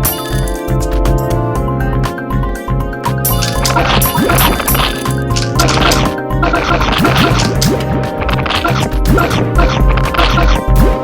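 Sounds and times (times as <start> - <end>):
music with bass and beat: 0.0 - 11.0.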